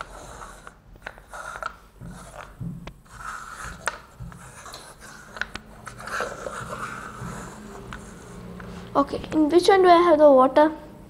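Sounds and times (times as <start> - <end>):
paper cups scraping on a tabletop: 0.0 - 9.0.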